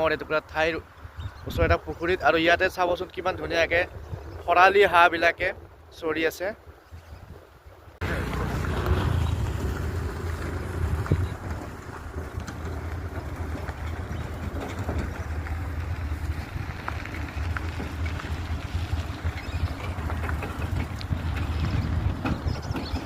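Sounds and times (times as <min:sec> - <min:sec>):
highway traffic rumble: 0:00.0 - 0:23.0
wind noise on microphone: 0:01.0 - 0:06.0, 0:06.6 - 0:08.0, 0:08.9 - 0:23.0.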